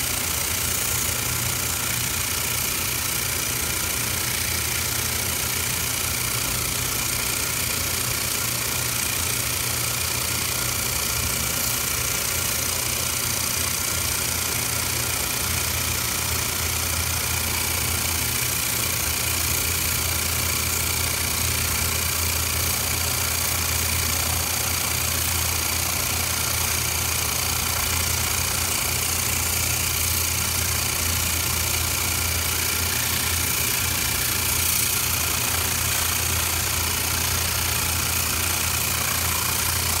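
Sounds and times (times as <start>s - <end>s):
machine humming with airy hiss: 0.0s - 40.0s.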